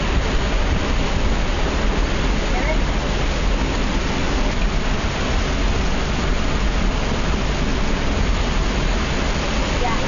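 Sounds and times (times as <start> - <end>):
heavy rain: 0.0 - 10.0
wind rumble on microphone: 0.0 - 10.0.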